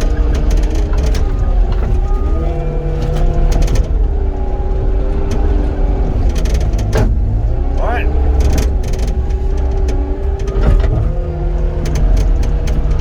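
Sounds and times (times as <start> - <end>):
track loader diesel engine: 0.0 - 13.0.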